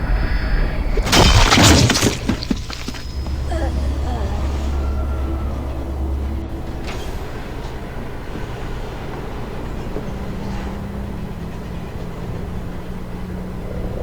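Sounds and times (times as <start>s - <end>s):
subway train rumble: 0.0s - 1.1s, 2.9s - 14.0s
steady low hum: 0.0s - 14.0s.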